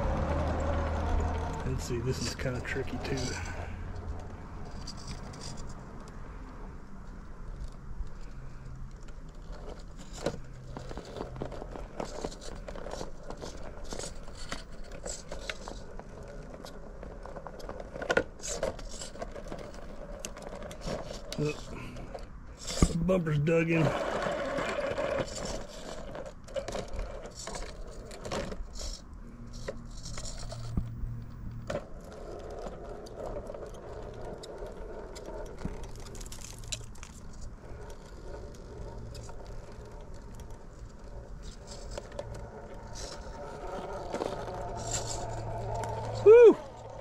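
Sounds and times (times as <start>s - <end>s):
tyres scrabbling on rock: 9.3s - 47.0s.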